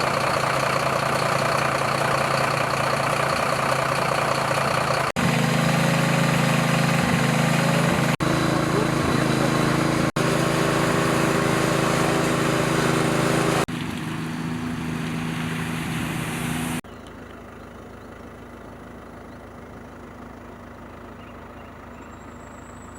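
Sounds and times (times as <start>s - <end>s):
engines humming: 0.0s - 22.9s.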